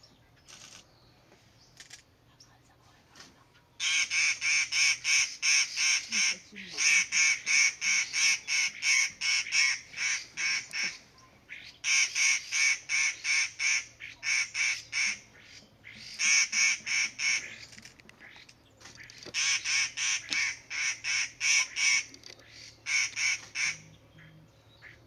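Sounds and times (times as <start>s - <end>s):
bird chattering calls: 3.8s - 25.0s.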